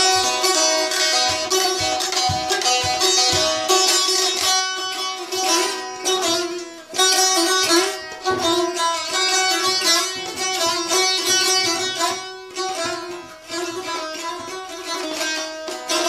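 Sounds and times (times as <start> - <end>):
long-necked lute strummed fast: 0.0 - 16.0.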